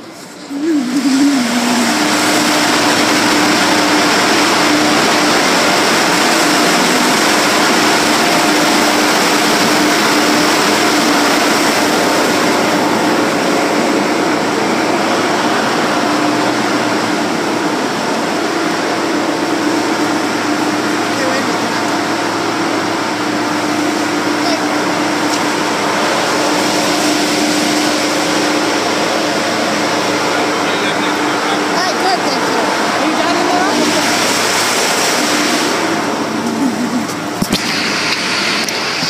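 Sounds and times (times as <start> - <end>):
car wash air blowers: 0.0 - 39.0.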